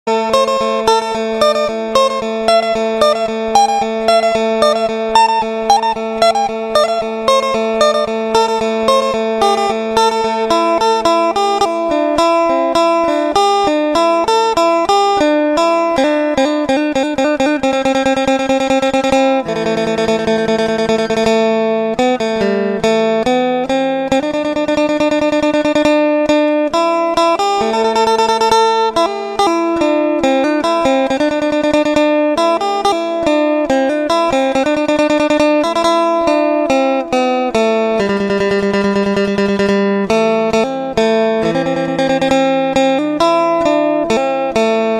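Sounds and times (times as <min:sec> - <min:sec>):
plucked lute melody: 0:00.0 - 0:44.9.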